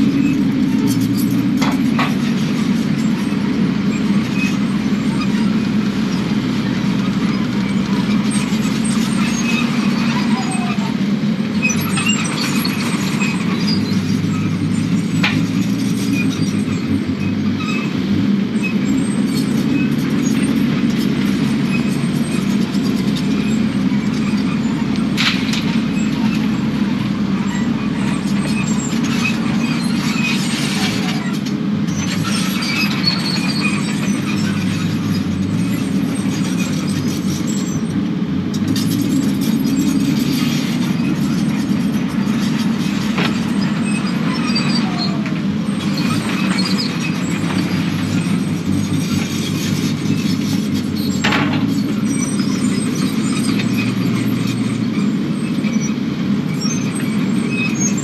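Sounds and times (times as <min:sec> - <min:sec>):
high metallic squeals: 0:00.0 - 0:11.0, 0:18.6 - 0:38.0, 0:38.7 - 0:58.0
excavator diesel engine running: 0:00.0 - 0:58.0.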